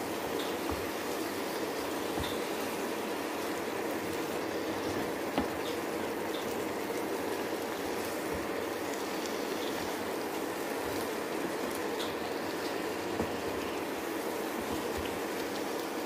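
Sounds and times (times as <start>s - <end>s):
curry bubbling and sizzling: 0.0s - 16.0s.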